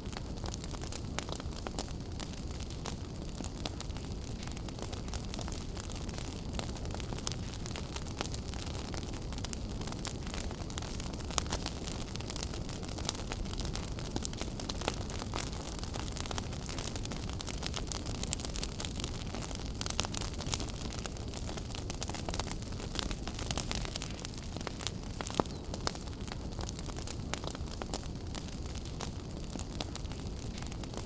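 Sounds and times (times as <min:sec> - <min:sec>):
fire crackling and popping: 0:00.0 - 0:31.0
low rumble of fire: 0:00.0 - 0:31.0
sharp snaps of burning wood: 0:00.0 - 0:31.0.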